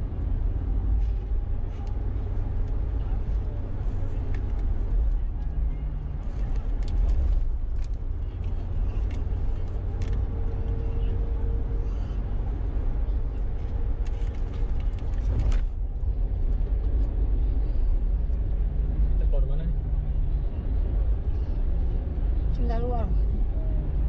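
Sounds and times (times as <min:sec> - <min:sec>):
road and engine rumble inside car: 0:00.0 - 0:24.0.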